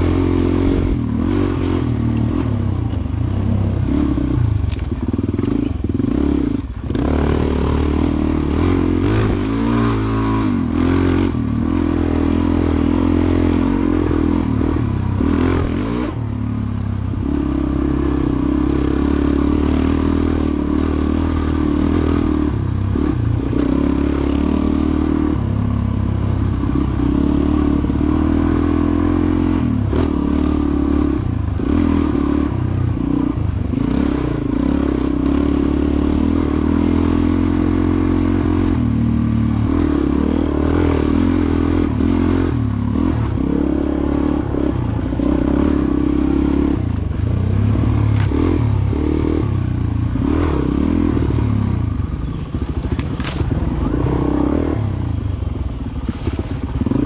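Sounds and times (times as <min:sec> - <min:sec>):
dirt bike engine revving: 0:00.0 - 0:26.0, 0:26.6 - 0:57.0.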